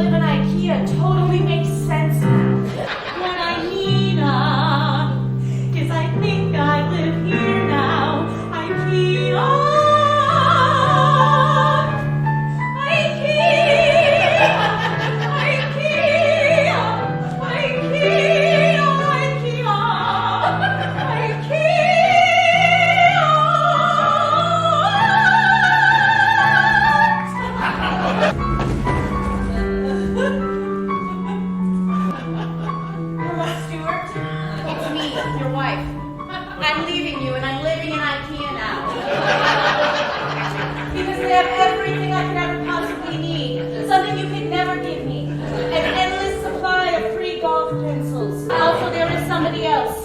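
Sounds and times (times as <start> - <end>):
piano chords: 0.0 - 50.0.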